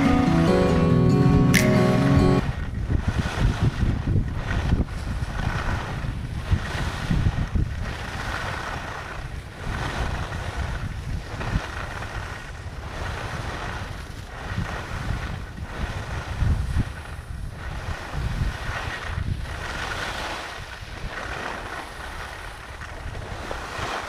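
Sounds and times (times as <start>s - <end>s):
wind buffeting microphone: 2.4s - 24.0s.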